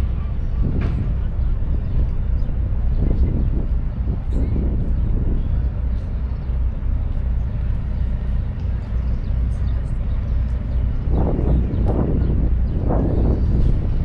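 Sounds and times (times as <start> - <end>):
traffic rumble: 0.0 - 14.0
voices of passersby: 0.0 - 14.0.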